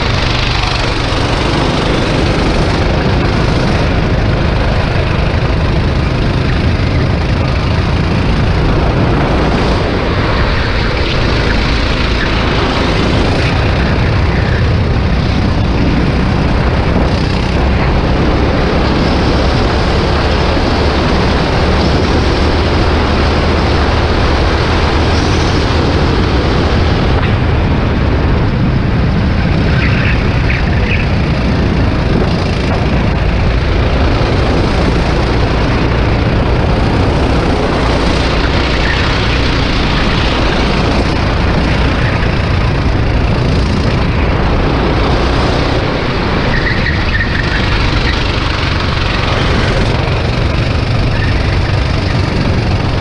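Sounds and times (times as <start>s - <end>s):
kart engine running hard: 0.0s - 53.0s.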